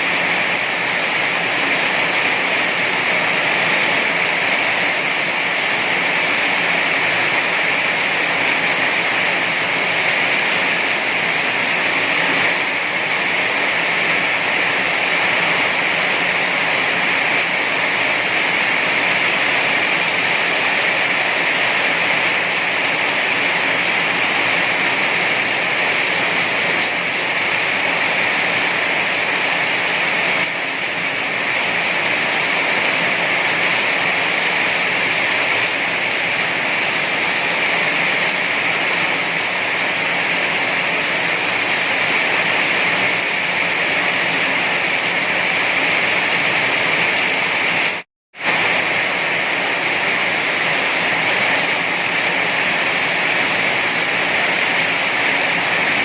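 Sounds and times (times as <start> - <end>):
heavy rain hiss: 0.0 - 56.0.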